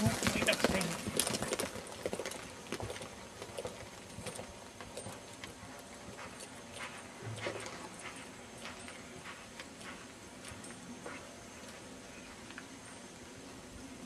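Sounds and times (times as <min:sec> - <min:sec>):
horse hoofbeats on sand: 0:00.0 - 0:11.8.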